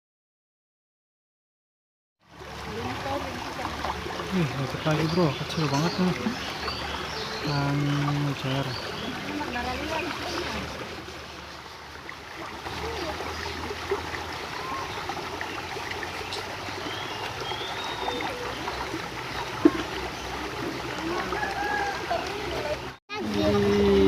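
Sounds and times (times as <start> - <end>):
river water flowing: 2.2 - 24.0.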